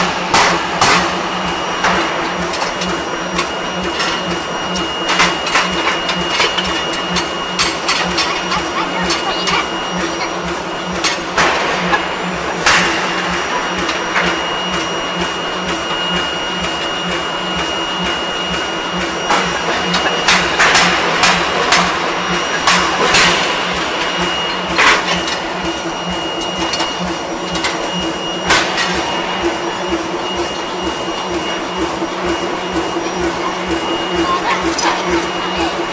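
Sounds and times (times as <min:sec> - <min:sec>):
rolling machine hum and whine: 0:00.0 - 0:35.9.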